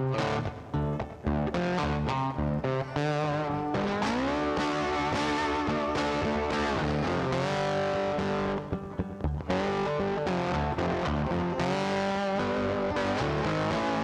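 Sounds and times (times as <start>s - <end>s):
guitar and bass music: 0.0s - 14.0s.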